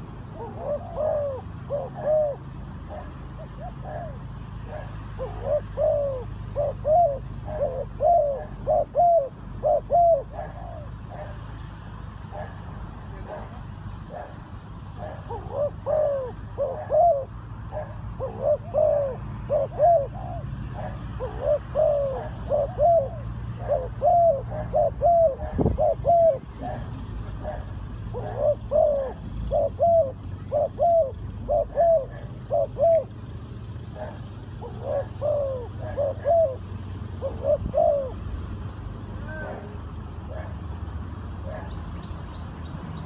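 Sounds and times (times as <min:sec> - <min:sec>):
dove cooing: 0:00.0 - 0:11.6, 0:12.2 - 0:41.8.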